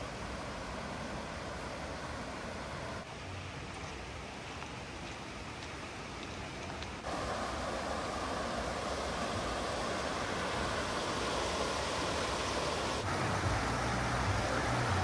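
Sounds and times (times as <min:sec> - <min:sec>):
stream flowing over stones: 0:00.0 - 0:15.0.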